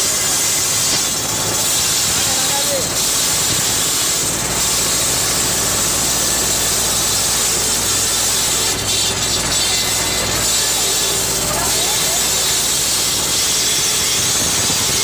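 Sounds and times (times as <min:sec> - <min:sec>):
loud steady hiss: 0:00.0 - 0:15.0
tractor engine running: 0:00.0 - 0:15.0.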